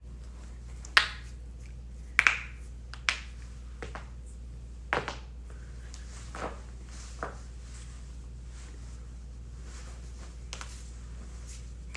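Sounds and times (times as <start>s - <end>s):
low steady hum: 0.0s - 11.9s.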